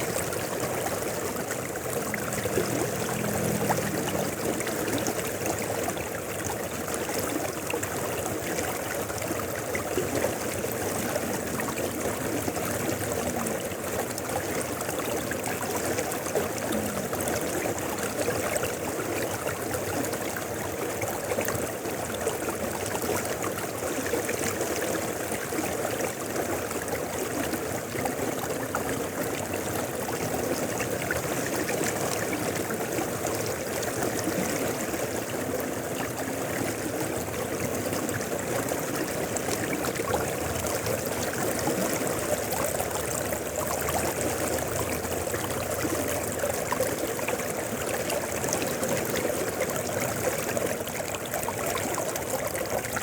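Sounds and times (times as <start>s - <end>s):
river flowing: 0.0s - 53.0s.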